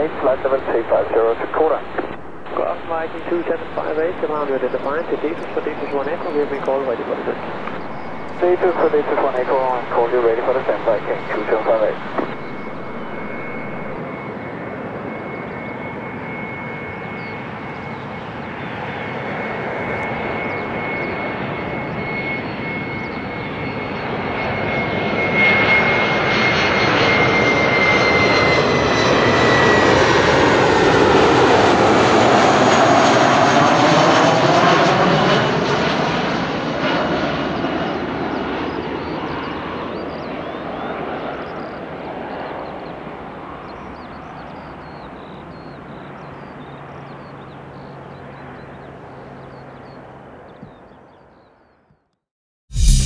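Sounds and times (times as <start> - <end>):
jet aircraft passing: 0.0 - 50.4, 52.7 - 53.0.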